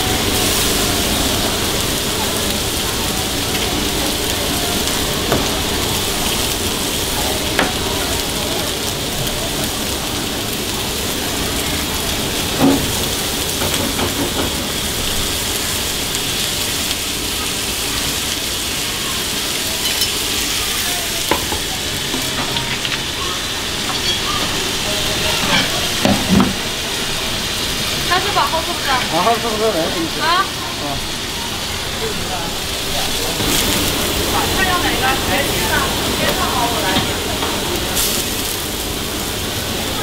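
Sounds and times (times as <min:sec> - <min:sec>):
food sizzling on hot iron plate: 0:00.0 - 0:40.0.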